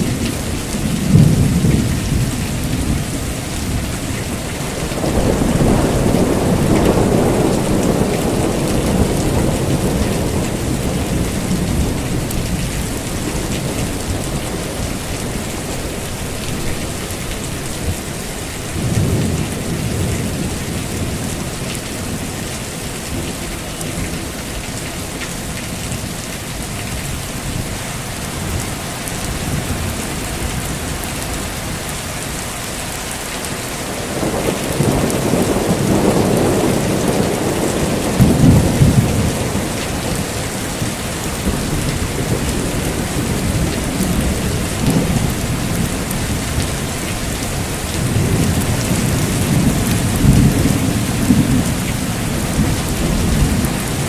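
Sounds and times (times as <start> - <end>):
rolling thunder: 0.0 - 32.4, 33.8 - 54.0
heavy rain: 0.0 - 54.0.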